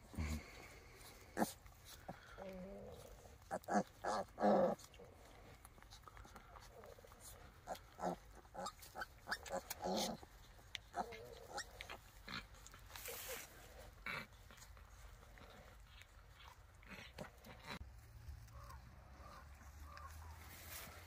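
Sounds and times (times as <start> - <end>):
piglets squeaking and grunting: 0.0 - 14.8, 15.4 - 17.8.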